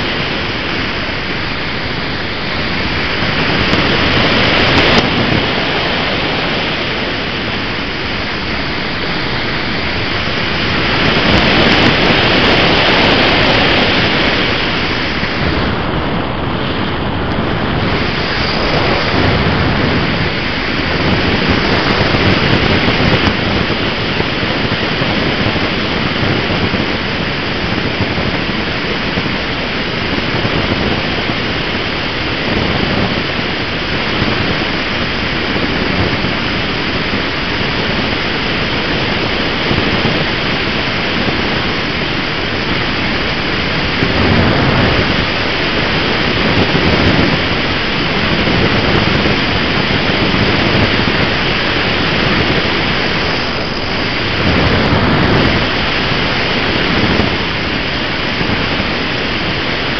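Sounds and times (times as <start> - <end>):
airflow buffeting microphone: 0.0 - 59.9.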